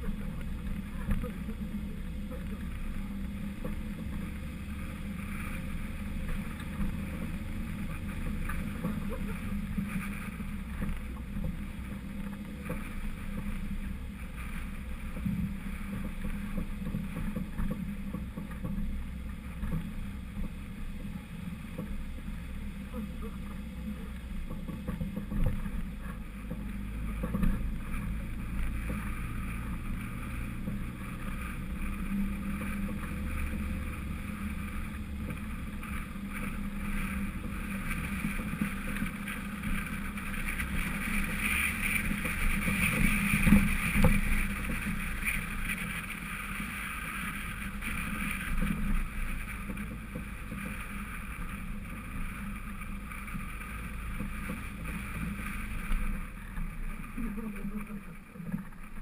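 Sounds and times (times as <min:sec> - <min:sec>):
car engine rumble off-road: 0:00.0 - 0:59.0
road noise: 0:00.0 - 0:59.0.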